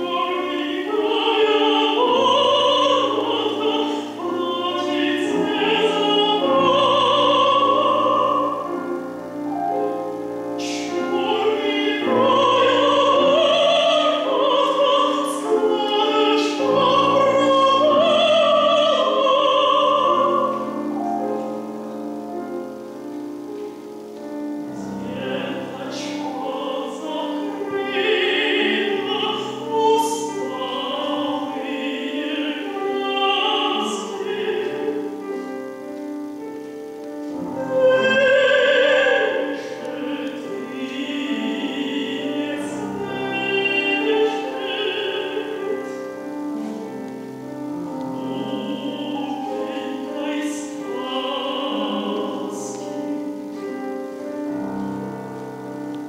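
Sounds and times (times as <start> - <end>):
woman singing operatically: 0.0 - 9.1, 10.6 - 21.3, 24.8 - 35.4, 37.6 - 46.4, 47.8 - 53.6
piano accompaniment: 0.0 - 56.0.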